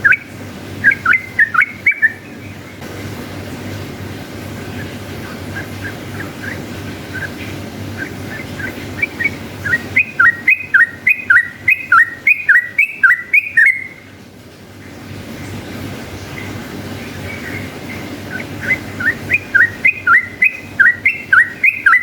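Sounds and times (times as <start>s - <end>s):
bird singing rolling notes: 0.0s - 14.2s, 14.8s - 22.0s
steady low hum: 0.0s - 22.0s.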